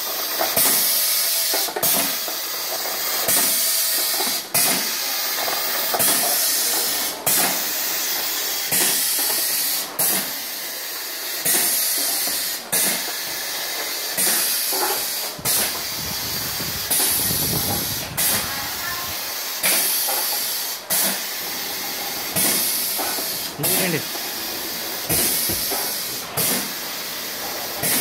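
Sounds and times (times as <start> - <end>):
air cylinders hissing: 0.0 - 28.0
sharp pneumatic exhaust puff: 0.4 - 2.3, 3.0 - 28.0.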